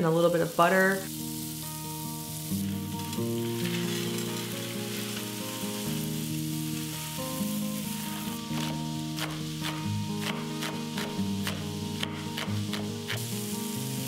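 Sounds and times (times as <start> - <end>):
butter sizzling in a skillet: 0.0 - 14.0
soft background music: 0.0 - 14.0.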